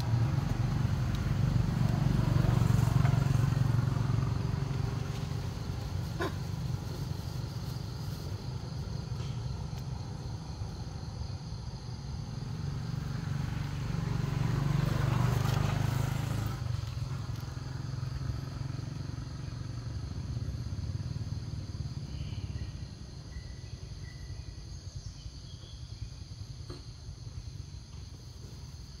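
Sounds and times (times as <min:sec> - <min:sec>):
vehicle passing by: 0:00.0 - 0:23.3.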